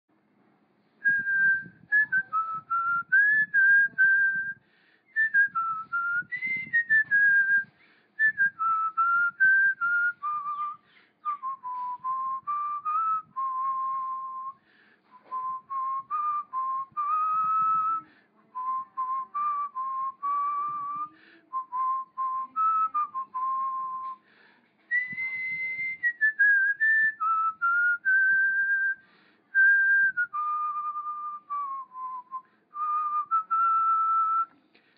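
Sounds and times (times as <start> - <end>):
person whistling a melody: 1.0 - 34.6.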